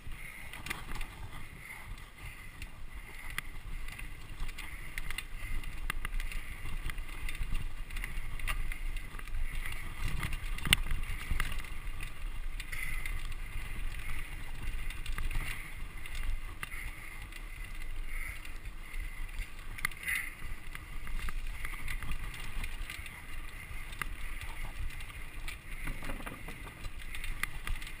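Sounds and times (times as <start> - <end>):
bike clicks and rattles: 0.0 - 28.0
bike tyres rumbling on dirt: 0.0 - 28.0.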